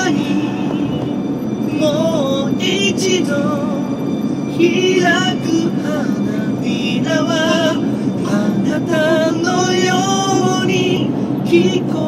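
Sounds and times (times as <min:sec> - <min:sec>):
man singing a pop ballad: 0:00.0 - 0:12.0.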